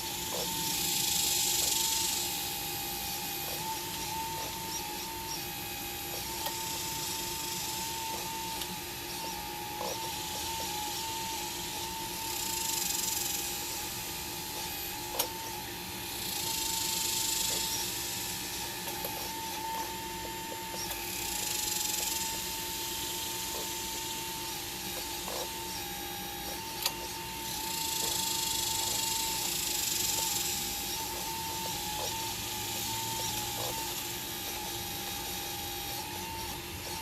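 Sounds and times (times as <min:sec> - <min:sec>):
hydraulic hiss: 0:00.0 - 0:02.8, 0:03.4 - 0:25.7, 0:26.3 - 0:37.0
hydraulic pump whining: 0:00.0 - 0:37.0.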